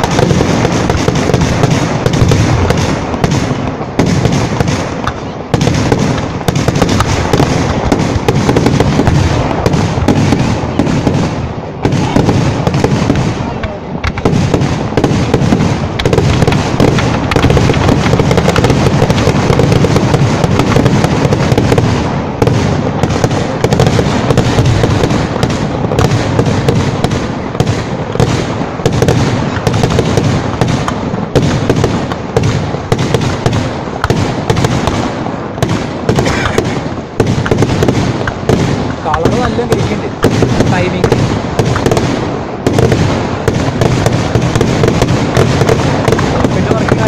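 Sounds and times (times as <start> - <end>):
fireworks bangs and crackle: 0.0 - 47.0.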